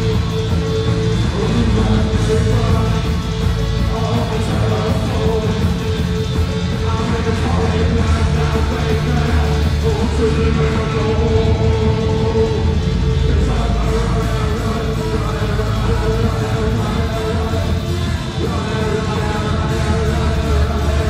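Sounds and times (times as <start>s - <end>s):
loud live band music: 0.0s - 21.0s.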